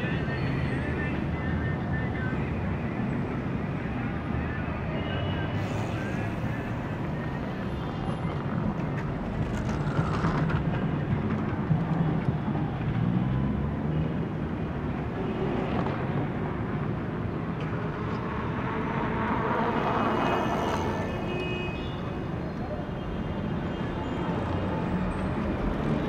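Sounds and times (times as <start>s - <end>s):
cars and buses passing: 0.0s - 26.0s.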